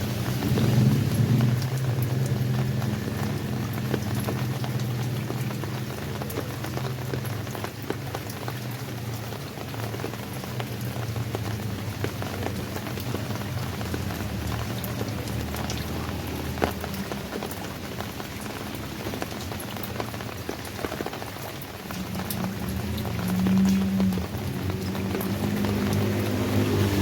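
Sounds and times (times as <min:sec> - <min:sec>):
rain falling: 0:00.0 - 0:27.0
raindrops ticking on a surface: 0:00.0 - 0:27.0.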